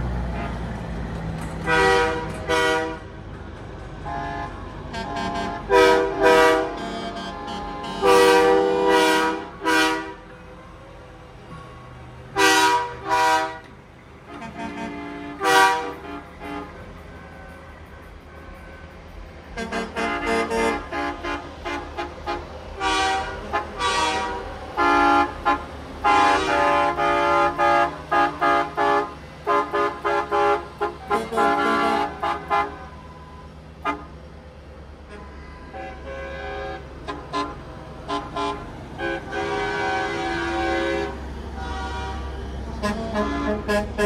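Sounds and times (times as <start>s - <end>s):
truck air horns blasting: 0.2s - 0.7s, 1.6s - 3.2s, 4.0s - 10.4s, 11.5s - 34.2s, 35.0s - 44.0s.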